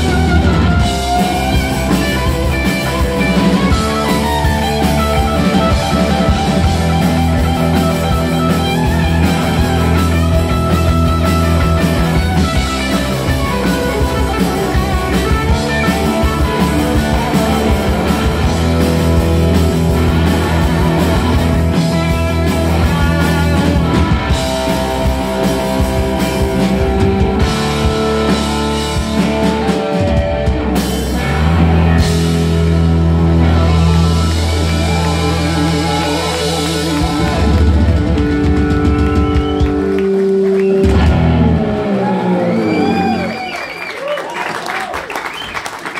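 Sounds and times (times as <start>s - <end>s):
drum kit: 0.0s - 43.5s
bass guitar: 0.0s - 44.2s
electric guitar: 0.0s - 45.4s.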